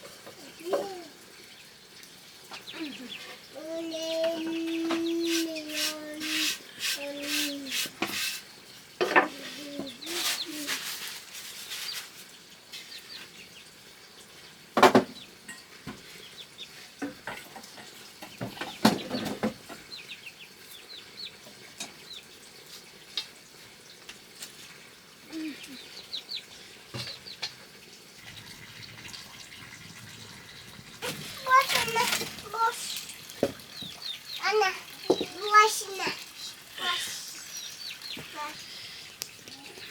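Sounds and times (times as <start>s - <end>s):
dough sizzling in hot oil: 0.0s - 39.9s
chickens clucking: 2.4s - 8.3s, 9.0s - 12.1s, 14.8s - 39.9s.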